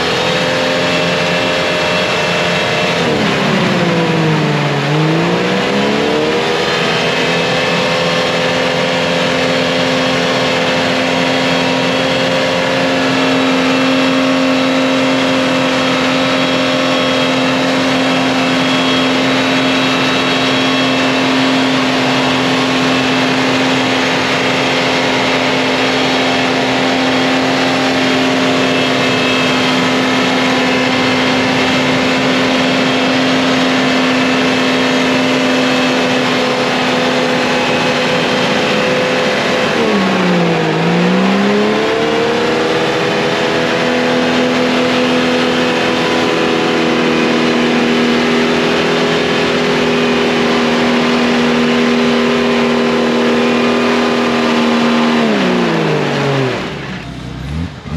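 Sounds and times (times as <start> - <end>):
engine revving at high revs: 0.0 - 57.9.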